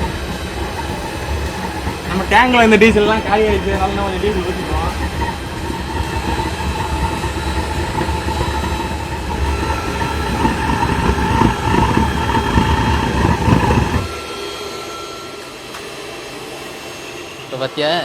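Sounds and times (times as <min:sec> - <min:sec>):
blower hum: 0:00.0 - 0:18.0
oil burner roaring with whine: 0:00.0 - 0:18.0.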